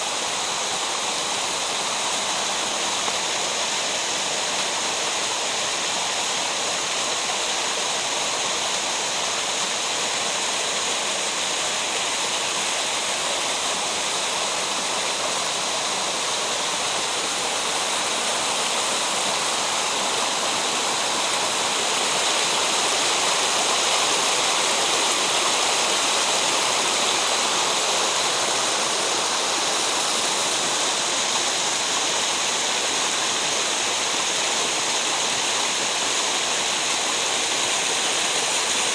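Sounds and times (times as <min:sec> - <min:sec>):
rushing stream water: 0:00.0 - 0:38.9.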